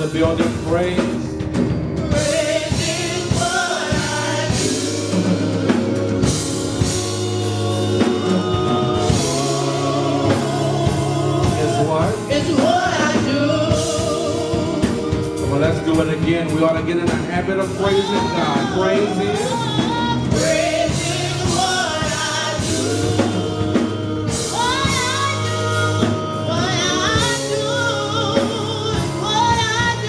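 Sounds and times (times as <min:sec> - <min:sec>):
drum kit and bass: 0:00.0 - 0:30.0
singers with vibrato: 0:02.0 - 0:16.4, 0:17.6 - 0:30.0.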